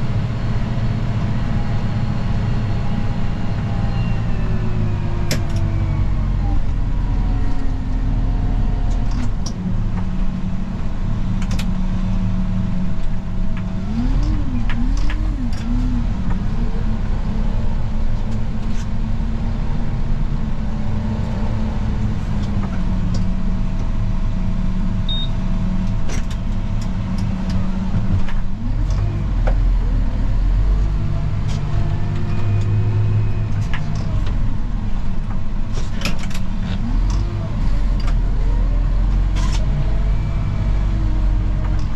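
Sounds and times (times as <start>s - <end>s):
snow plow engine running: 0.0s - 41.9s.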